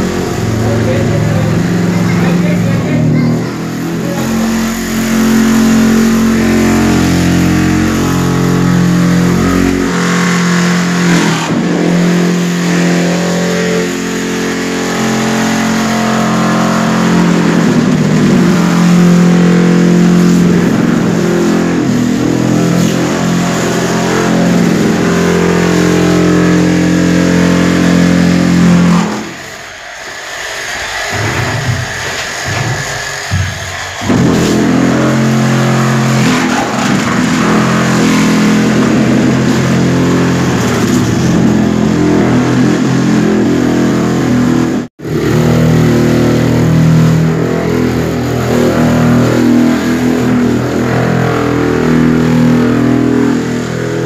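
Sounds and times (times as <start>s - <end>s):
tile vibration machine humming: 0.0s - 54.0s.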